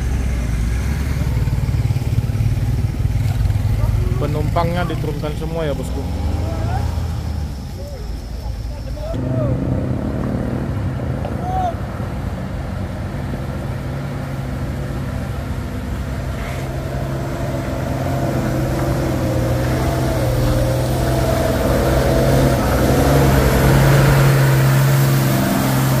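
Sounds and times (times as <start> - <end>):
bus engine: 0.0 - 26.0.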